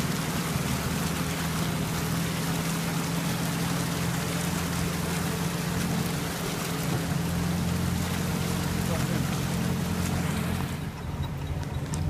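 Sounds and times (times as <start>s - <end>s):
off-road vehicle engine running: 0.0s - 12.0s
water splashing around tyres: 0.0s - 12.0s.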